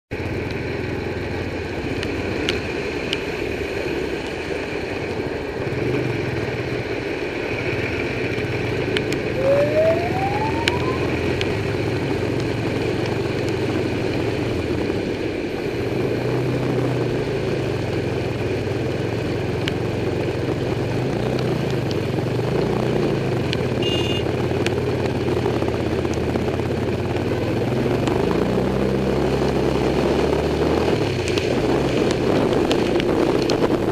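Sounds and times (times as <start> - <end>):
wind and road noise: 0.1 - 33.9.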